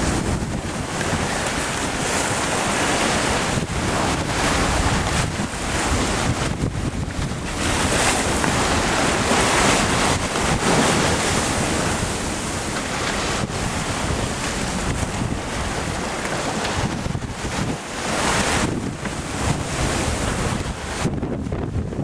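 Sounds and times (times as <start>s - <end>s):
sea water rushing: 0.0s - 22.0s
wind buffeting microphone: 0.0s - 22.0s.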